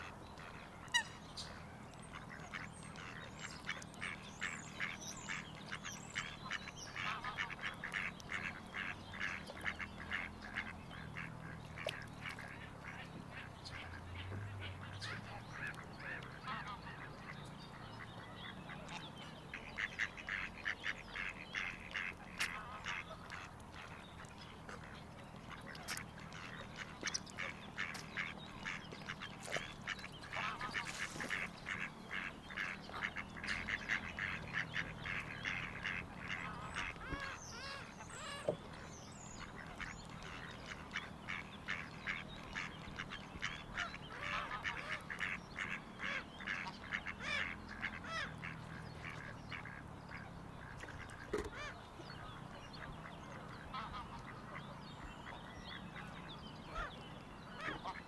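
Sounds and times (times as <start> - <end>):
waterfowl flock calling: 0.0 - 58.0.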